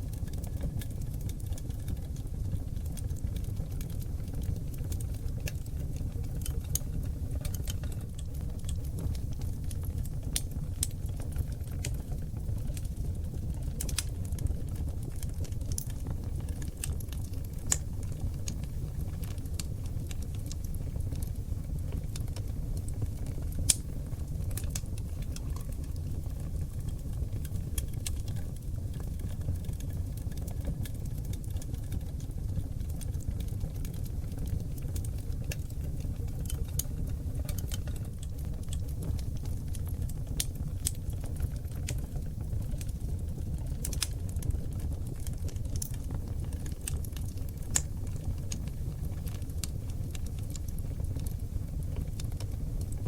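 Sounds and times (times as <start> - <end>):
fire crackling and popping: 0.0 - 53.0
wood fire rumbling: 0.0 - 53.0.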